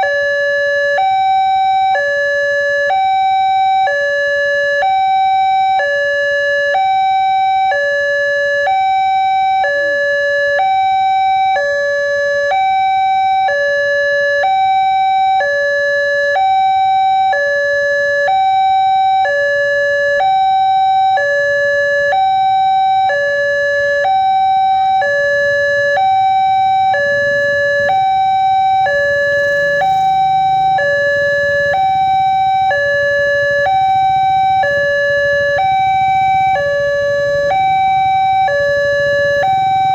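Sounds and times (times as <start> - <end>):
two-tone crossing siren: 0.0 - 39.9.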